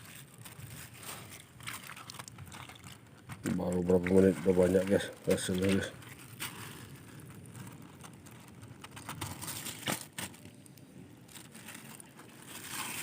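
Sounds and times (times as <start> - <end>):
rustling crinkling handling noise: 0.0 - 13.0.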